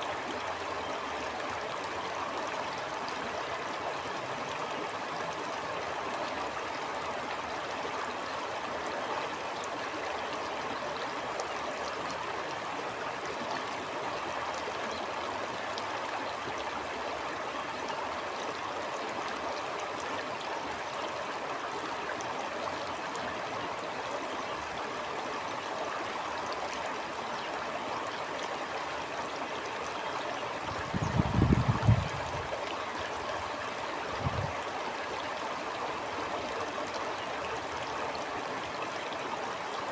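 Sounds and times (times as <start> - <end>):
stream water gurgling: 0.0 - 39.9.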